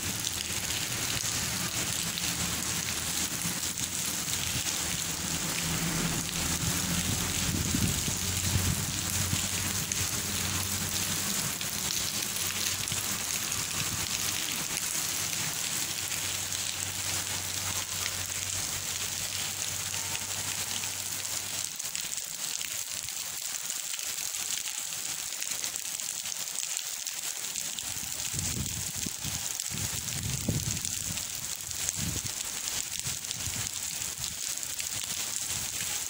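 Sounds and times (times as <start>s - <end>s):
rain falling on paving: 0.0s - 36.0s.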